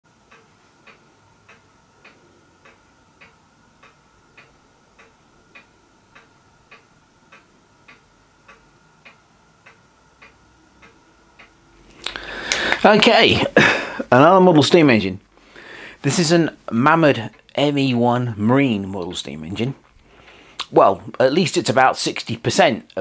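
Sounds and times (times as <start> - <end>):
steady even ticking: 0.1 - 23.0.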